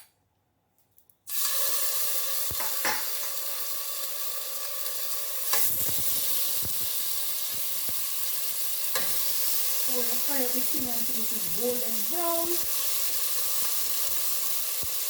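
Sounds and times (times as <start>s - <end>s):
chicken sizzling in hot oil: 1.3s - 15.0s.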